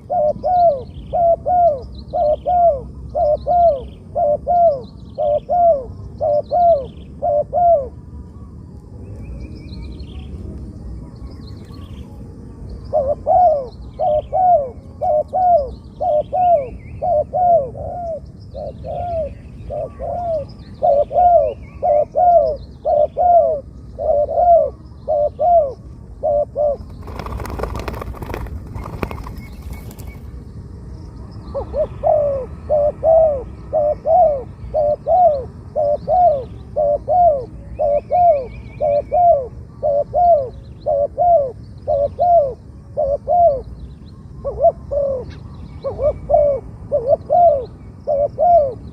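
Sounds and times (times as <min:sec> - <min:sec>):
doves cooing: 0:00.0 - 0:08.1, 0:12.8 - 0:30.2, 0:31.5 - 0:43.7, 0:44.4 - 0:48.9
small birds chirping faintly: 0:00.0 - 0:48.9.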